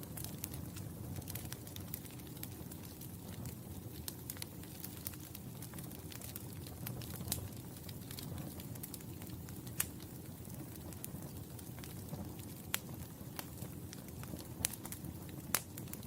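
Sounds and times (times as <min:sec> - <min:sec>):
fire crackling: 0:00.0 - 0:16.0
rumble of flames: 0:00.0 - 0:16.0.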